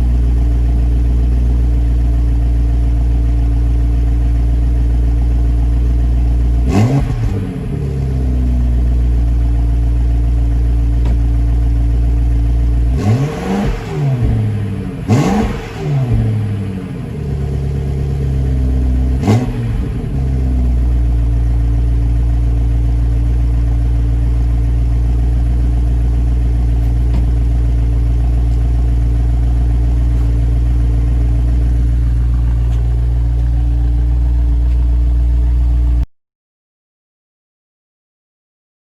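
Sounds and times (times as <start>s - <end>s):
car engine idling and revving: 0.0s - 36.1s.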